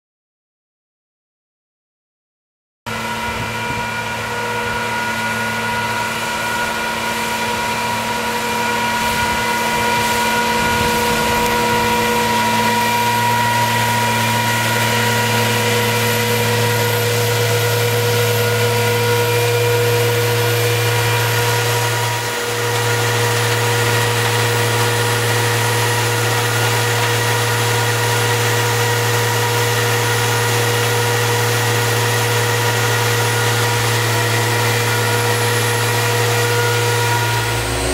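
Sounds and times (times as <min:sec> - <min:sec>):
machine engine humming: 0:02.9 - 0:37.9.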